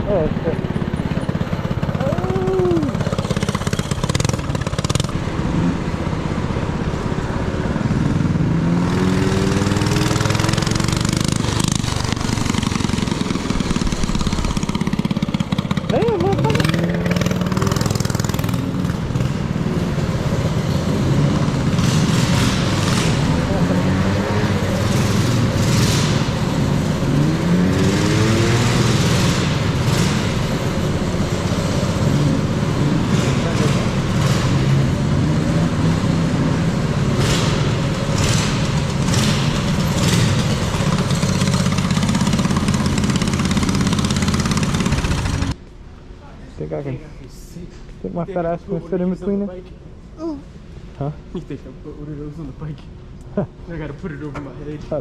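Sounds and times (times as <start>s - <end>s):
motorcycle engine running: 0.0s - 45.6s
road and wind noise: 0.0s - 55.0s.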